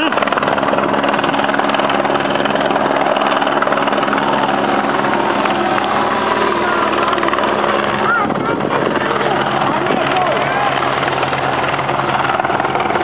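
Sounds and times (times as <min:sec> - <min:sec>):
helicopter droning overhead: 0:00.0 - 0:13.0
motorcycle engines: 0:02.3 - 0:13.0.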